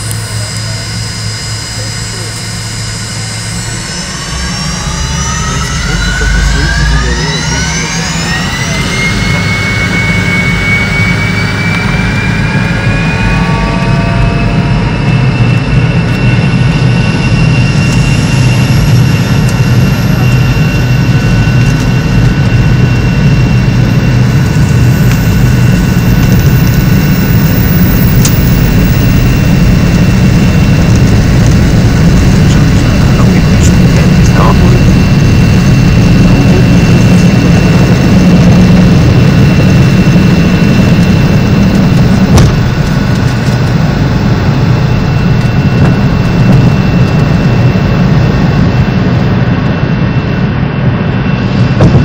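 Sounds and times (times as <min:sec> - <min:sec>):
deep engine rumble: 0:00.0 - 0:52.0
jet engines whining: 0:00.0 - 0:52.0.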